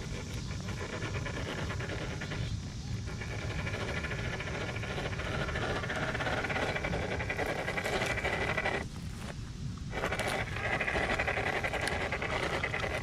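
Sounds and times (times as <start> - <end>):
toy car motor whining: 0.0 - 8.8, 9.9 - 13.0.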